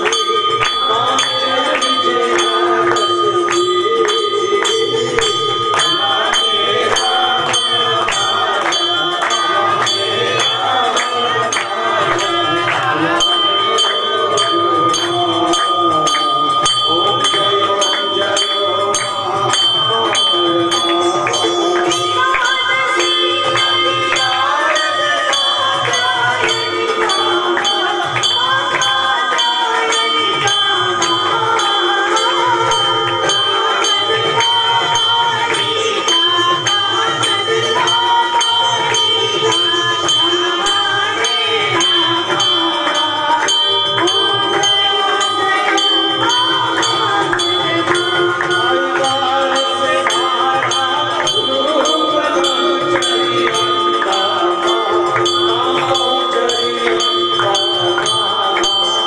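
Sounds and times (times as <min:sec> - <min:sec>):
music with steady beat: 0:00.0 - 0:59.0
wavering melody over held tones: 0:00.0 - 0:59.0.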